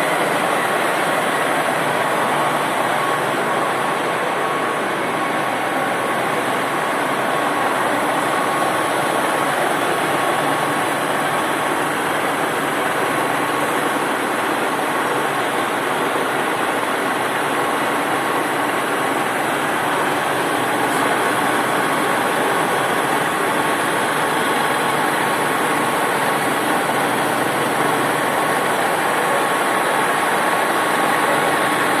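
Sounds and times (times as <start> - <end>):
milling machine running: 0.0 - 32.0
thin steady whine: 0.0 - 32.0.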